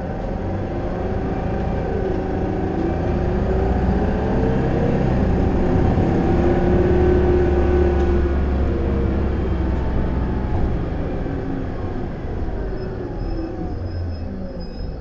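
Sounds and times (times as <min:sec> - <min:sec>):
bus diesel engine pulling hard: 0:00.0 - 0:15.0.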